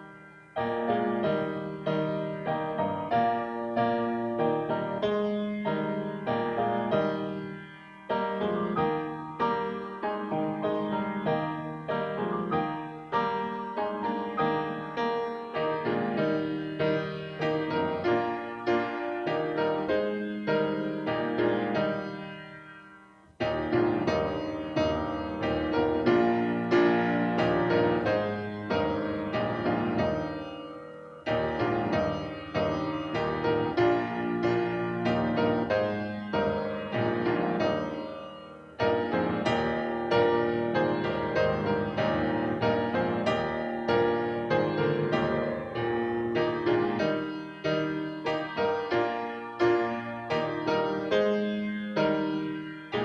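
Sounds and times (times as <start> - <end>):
slow piano music: 0.0 - 53.0.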